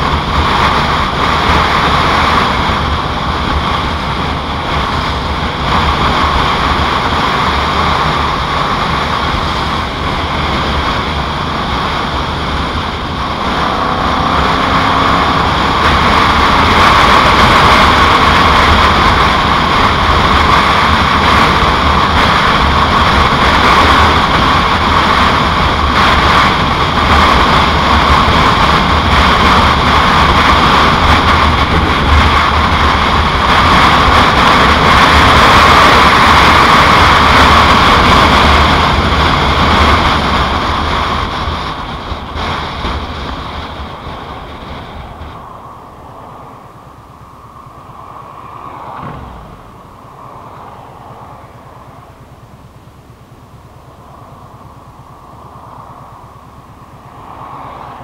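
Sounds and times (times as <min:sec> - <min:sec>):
motorcycle engine running: 0:00.0 - 0:58.0
rushing wind: 0:00.0 - 0:58.0.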